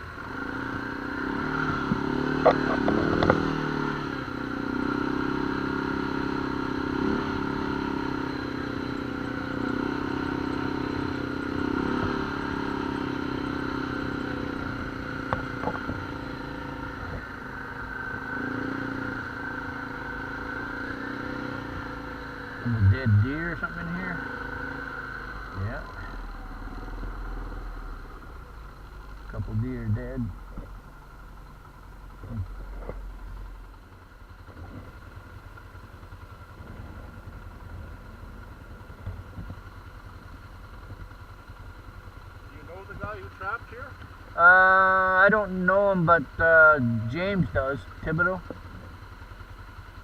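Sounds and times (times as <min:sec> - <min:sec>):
vehicle engine droning: 0:00.0 - 0:50.0.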